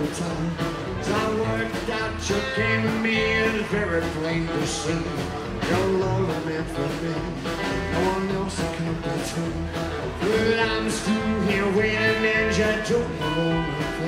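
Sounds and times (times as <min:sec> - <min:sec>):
person singing: 0:00.0 - 0:14.0
rockabilly band playing: 0:00.0 - 0:14.0.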